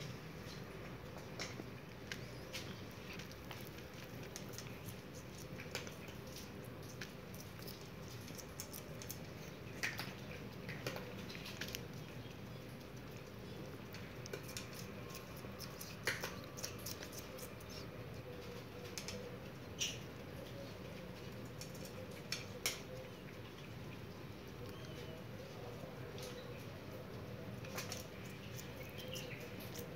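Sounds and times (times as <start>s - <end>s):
guinea pig chewing: 0.0s - 29.9s.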